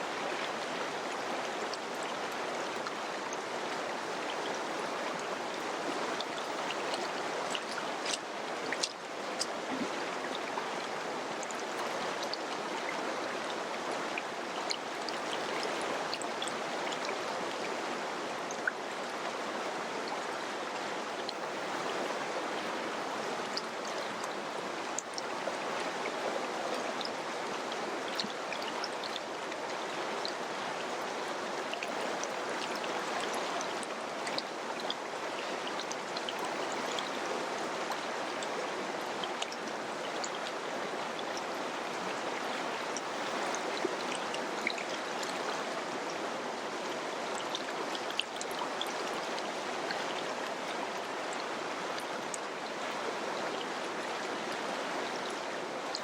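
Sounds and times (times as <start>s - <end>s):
river water rushing: 0.0s - 56.0s
water splashes and drips: 0.0s - 56.0s.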